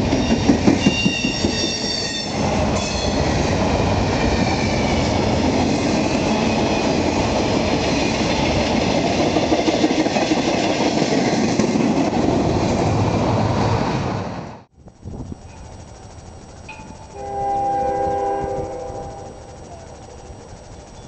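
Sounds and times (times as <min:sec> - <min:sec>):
freight cars rumbling on rails: 0:00.0 - 0:21.0.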